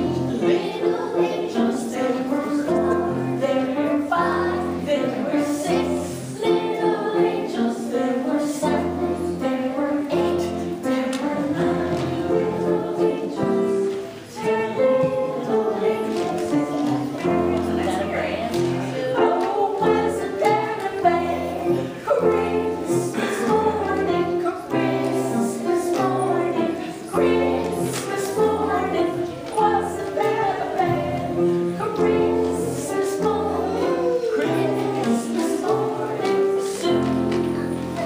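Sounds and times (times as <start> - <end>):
children singing: 0.0 - 38.0
instrumental accompaniment: 0.0 - 38.0.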